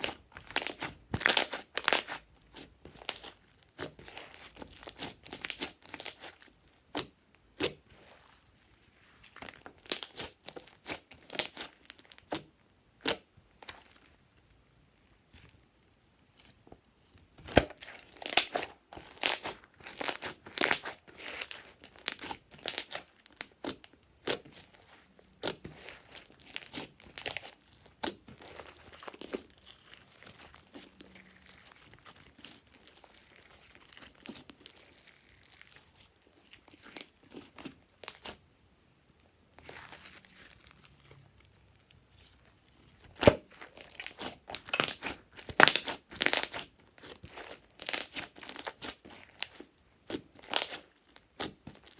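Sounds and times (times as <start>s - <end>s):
slime crackling and popping: 0.0s - 8.3s, 9.2s - 14.1s, 17.4s - 38.4s, 39.5s - 51.9s.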